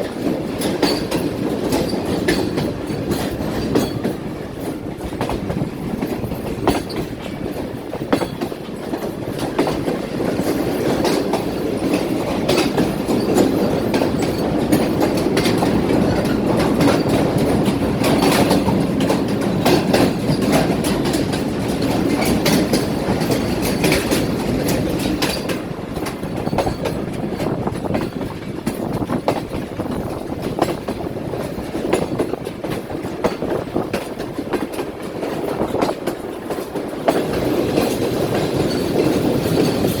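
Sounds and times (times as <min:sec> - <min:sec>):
train rumbling on rails: 0:00.0 - 0:40.0
train wheels clicking and clattering: 0:00.0 - 0:40.0.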